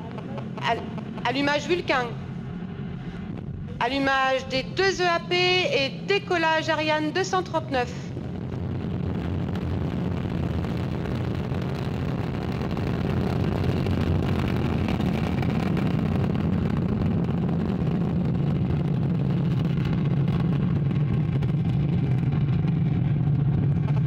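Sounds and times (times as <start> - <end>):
rocket engines deep rumble: 0.0 - 24.0.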